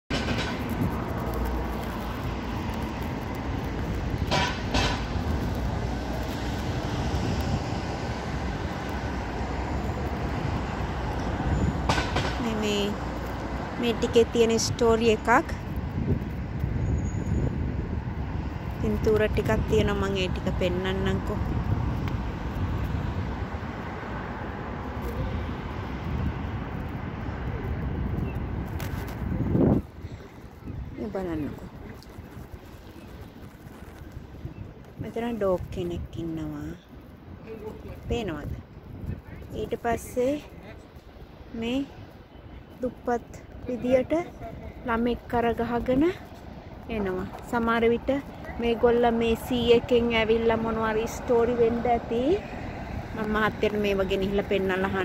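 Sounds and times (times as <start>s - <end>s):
city traffic rumble: 0.0s - 55.0s.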